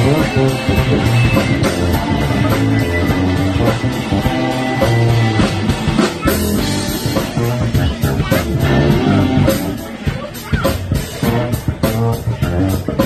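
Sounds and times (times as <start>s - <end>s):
drum kit: 0.0s - 13.0s
electric bass solo: 0.0s - 13.0s.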